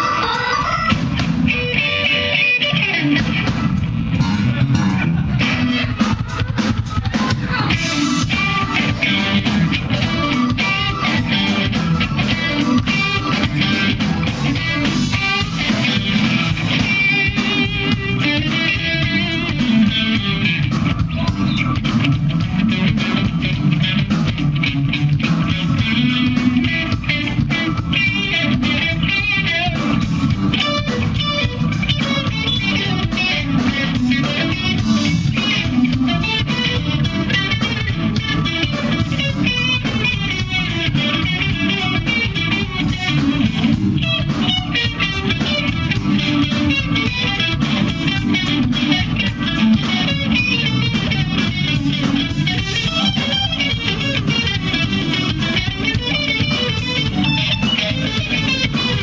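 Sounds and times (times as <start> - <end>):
electric guitar lines: 0.0 - 59.0
funk band playing: 0.0 - 59.0.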